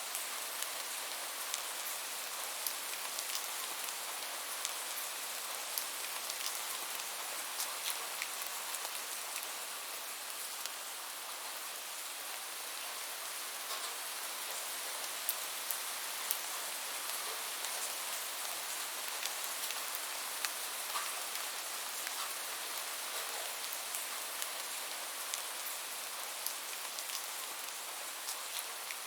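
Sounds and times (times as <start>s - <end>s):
rain hiss: 0.0s - 29.0s
raindrops ticking on a surface: 0.1s - 11.5s, 13.6s - 29.0s.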